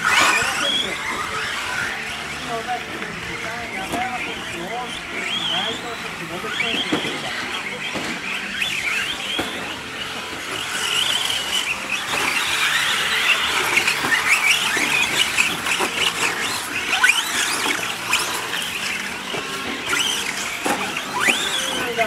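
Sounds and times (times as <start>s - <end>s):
model truck motors whining: 0.0s - 22.0s.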